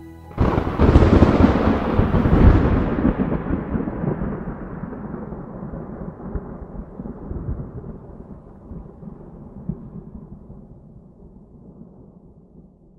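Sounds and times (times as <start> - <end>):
thunder rumbling: 0.3 - 12.6.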